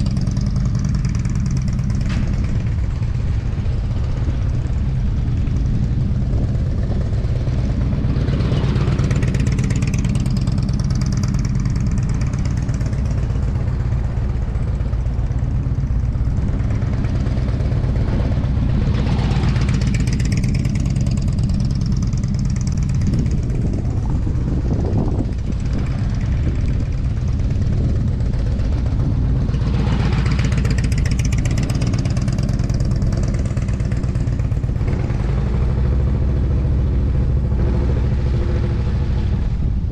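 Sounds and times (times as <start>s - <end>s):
motorcycle engine running: 0.0s - 39.9s
steady low rumble: 0.0s - 39.9s.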